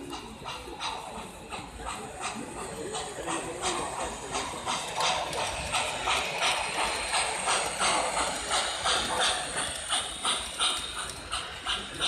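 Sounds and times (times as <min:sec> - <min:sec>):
model train wheels clicking: 0:00.0 - 0:12.0.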